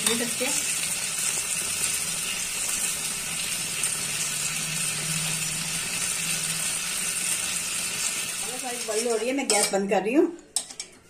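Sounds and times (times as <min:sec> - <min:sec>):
food sizzling in a pan: 0:00.0 - 0:10.1.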